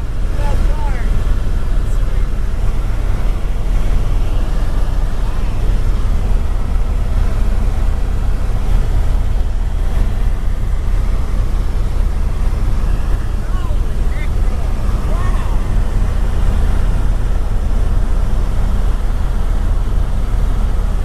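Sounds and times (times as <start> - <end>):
helicopter drone: 0.0 - 21.0.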